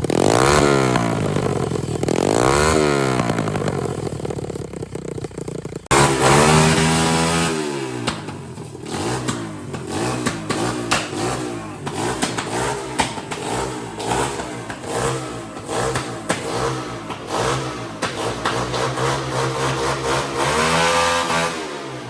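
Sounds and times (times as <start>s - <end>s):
pit bike engine revving: 0.0s - 22.0s.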